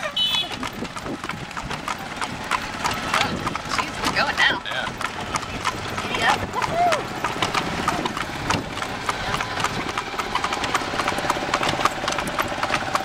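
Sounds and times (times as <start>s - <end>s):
horse hooves clip-clopping on asphalt: 0.0s - 13.0s.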